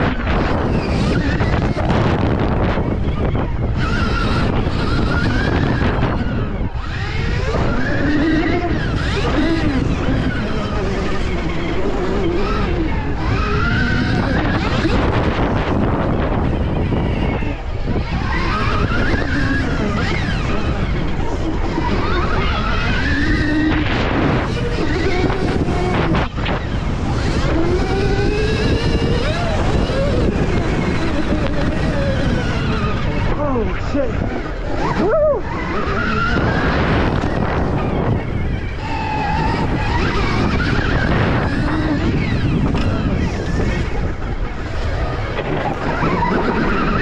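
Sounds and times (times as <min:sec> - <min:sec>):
electric motor whining: 0:00.0 - 0:47.0
wind noise on microphone: 0:00.0 - 0:47.0.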